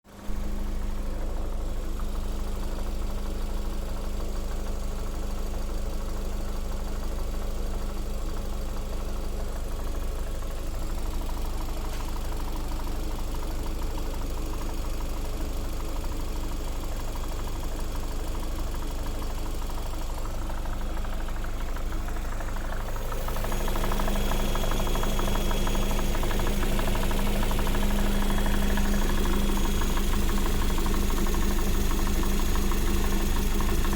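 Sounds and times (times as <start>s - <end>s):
car engine idling: 0.0s - 33.9s
rapid engine knock: 0.1s - 33.9s.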